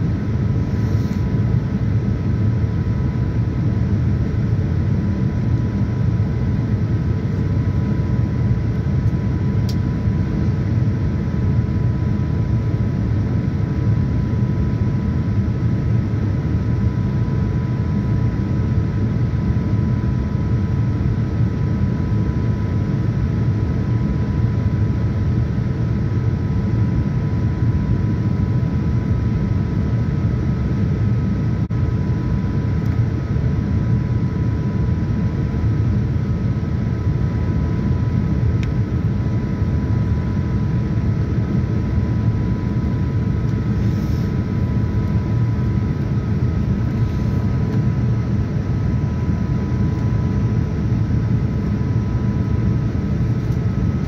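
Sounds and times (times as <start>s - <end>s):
aircraft cabin airflow and engine noise: 0.0s - 54.0s
faint steady whines: 0.0s - 54.0s.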